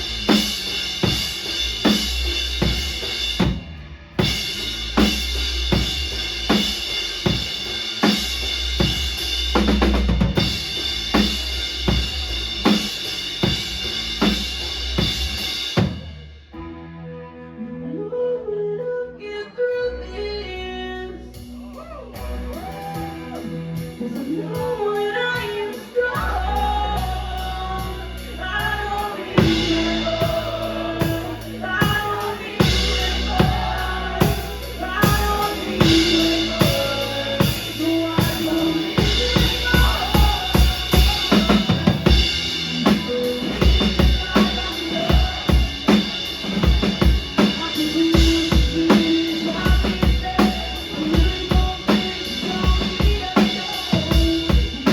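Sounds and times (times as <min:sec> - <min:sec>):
fast drum beat: 0:00.0 - 0:16.2, 0:22.2 - 0:54.9
rock band playing live: 0:00.0 - 0:16.7, 0:21.4 - 0:54.9.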